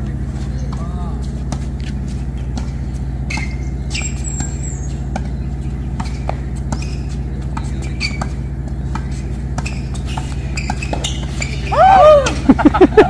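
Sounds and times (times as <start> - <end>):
shoes squeaking on court: 0.0 - 12.6
steady low hum: 0.0 - 13.0
ball bouncing: 0.4 - 12.4
racket hitting tennis ball: 0.4 - 12.4.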